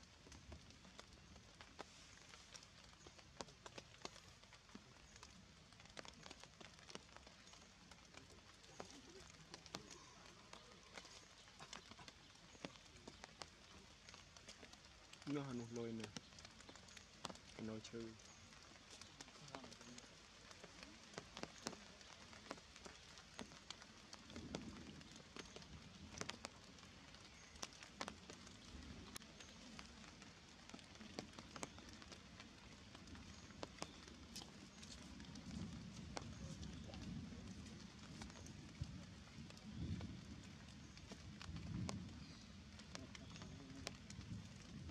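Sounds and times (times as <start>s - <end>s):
faint sharp ticks and clicks: 0.0s - 44.9s
water dripping onto leaves: 0.0s - 44.9s.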